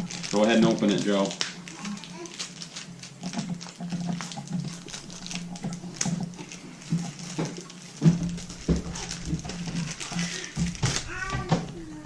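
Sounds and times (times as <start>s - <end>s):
cardboard packaging rustling: 0.0s - 12.0s.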